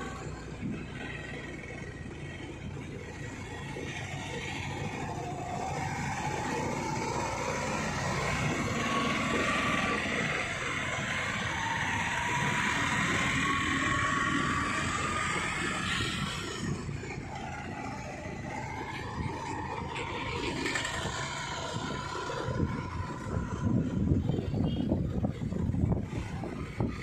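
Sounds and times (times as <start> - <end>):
motorcycle engine running: 0.0 - 27.0
wind noise: 3.1 - 27.0.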